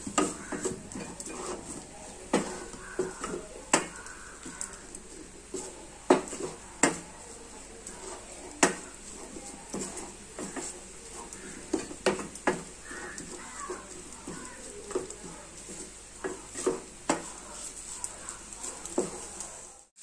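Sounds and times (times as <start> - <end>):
faint frying sizzle: 0.0 - 20.0
wooden spatula scraping steel pan: 0.0 - 20.0.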